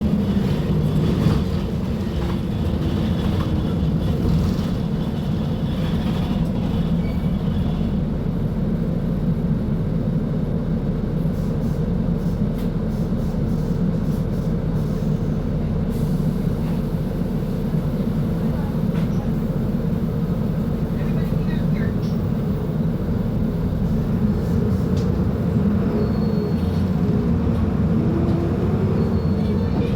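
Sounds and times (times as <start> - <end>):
diesel bus engine rumbling: 0.0 - 29.9.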